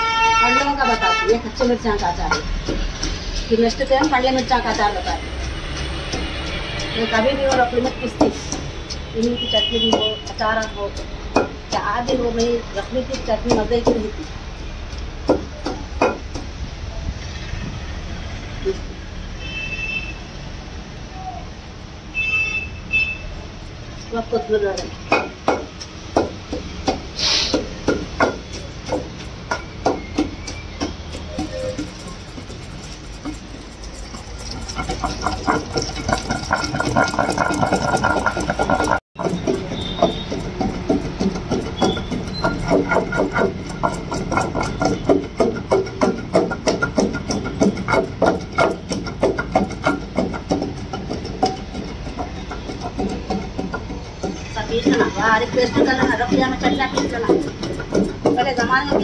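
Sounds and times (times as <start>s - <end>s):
pestle thudding in stone mortar: 0.5s - 16.8s, 24.4s - 59.0s.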